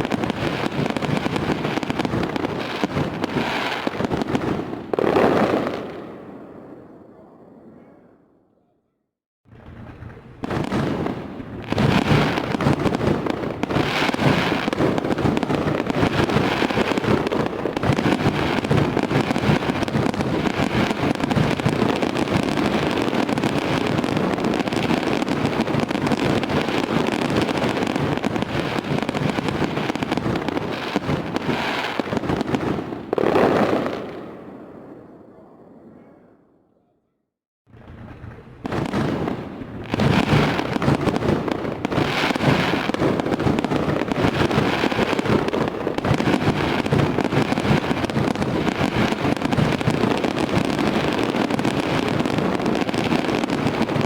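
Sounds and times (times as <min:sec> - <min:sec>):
fireworks bangs and crackling: 0:00.0 - 0:07.8, 0:09.5 - 0:36.0, 0:37.7 - 0:54.0.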